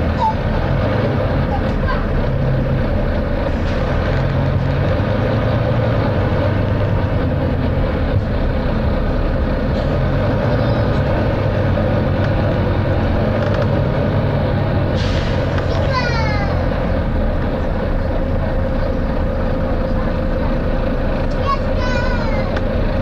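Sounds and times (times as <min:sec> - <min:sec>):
bus diesel engine running: 0:00.0 - 0:23.0
road and body noise: 0:00.0 - 0:23.0.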